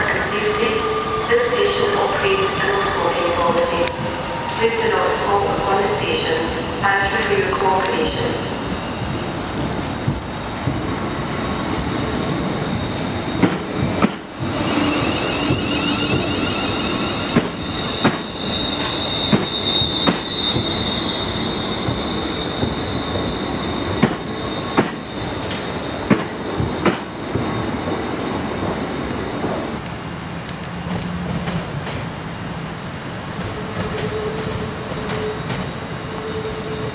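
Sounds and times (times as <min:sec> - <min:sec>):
train high steady squeal: 0:00.0 - 0:29.9, 0:33.0 - 0:36.9.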